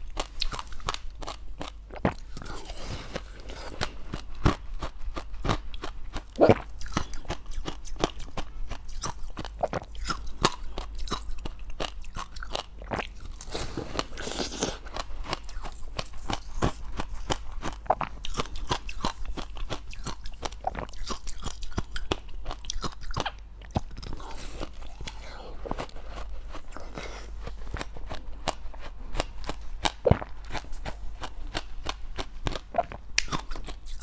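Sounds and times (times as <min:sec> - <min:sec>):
crunchy ice chewing: 0:00.2 - 0:34.0.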